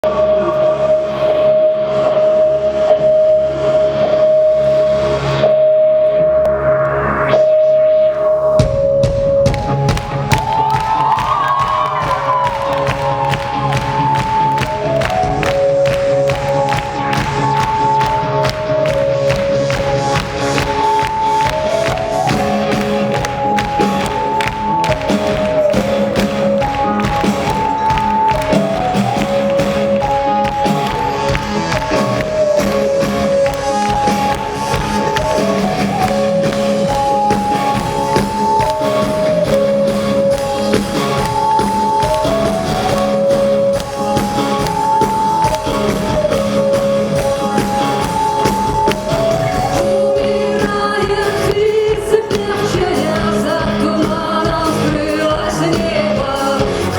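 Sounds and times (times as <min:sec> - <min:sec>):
band melody line: 0:08.2 - 0:56.9
drums: 0:08.3 - 0:56.9.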